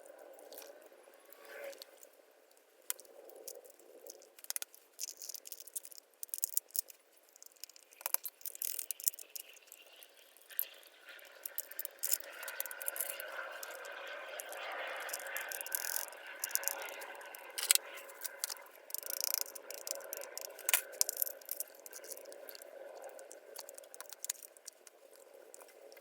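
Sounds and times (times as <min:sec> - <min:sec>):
small hard parts clicking and rattling: 0:02.9 - 0:26.0.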